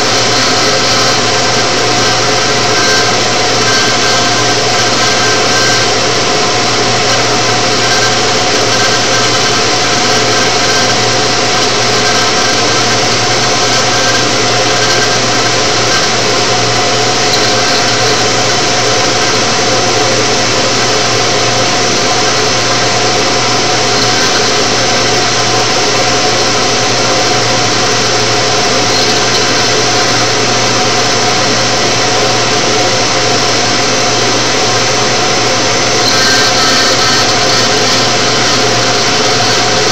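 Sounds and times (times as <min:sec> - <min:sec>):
router spindle cutting plastic: 0:00.0 - 0:39.9.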